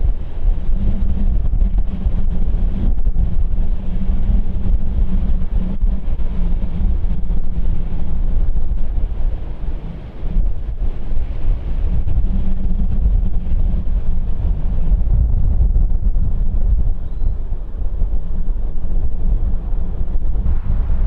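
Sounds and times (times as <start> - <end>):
low steady hum: 0.0 - 21.0
wind buffeting microphone: 0.0 - 21.0.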